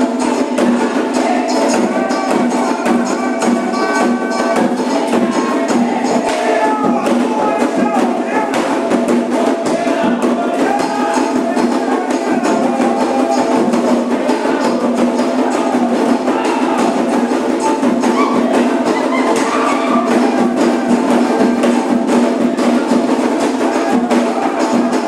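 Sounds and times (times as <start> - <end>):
bell-like percussion: 0.0 - 25.0
hand drums: 0.0 - 25.0.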